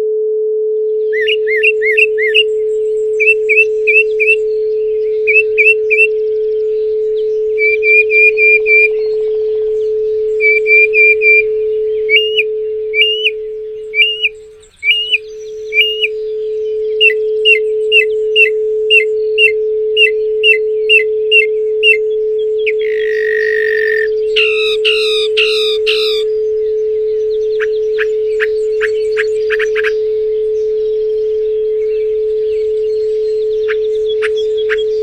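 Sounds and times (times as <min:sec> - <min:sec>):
steady pure tone: 0:00.0 - 0:35.0
songbird singing: 0:00.9 - 0:35.0.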